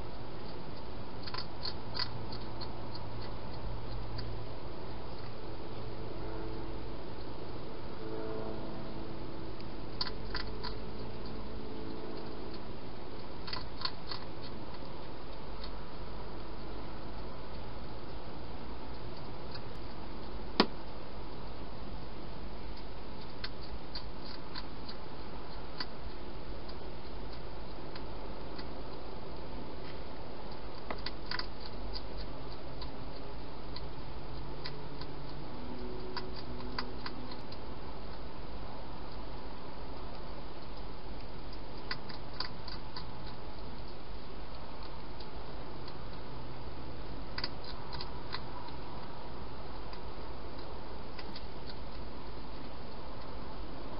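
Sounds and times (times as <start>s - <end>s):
hedgehog crunching dry food: 0.0s - 5.6s, 9.6s - 53.9s
steady background hiss: 0.0s - 53.9s.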